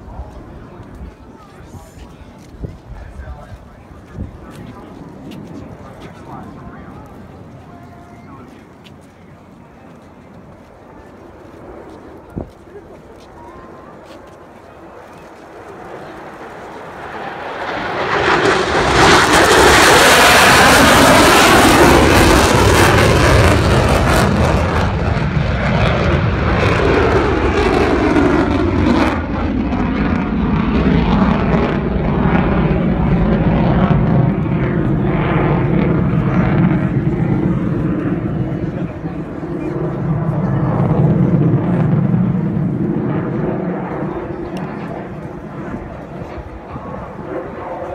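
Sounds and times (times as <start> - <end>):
jet engine roaring overhead: 0.0 - 47.9.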